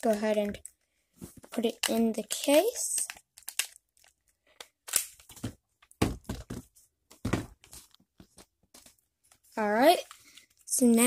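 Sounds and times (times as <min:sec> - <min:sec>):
plastic parts rustling and clicking: 0:00.0 - 0:09.4.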